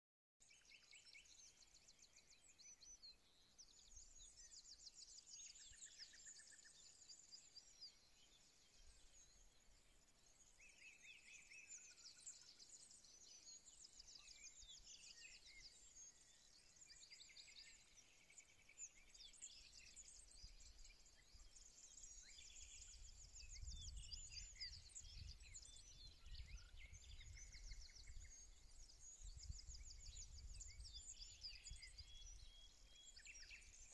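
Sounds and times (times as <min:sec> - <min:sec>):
small birds twittering: 0:00.4 - 0:33.9.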